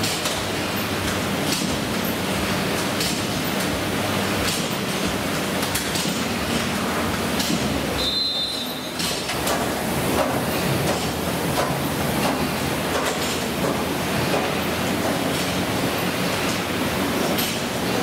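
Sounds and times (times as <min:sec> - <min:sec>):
exercise machines whirring: 0:00.0 - 0:18.0.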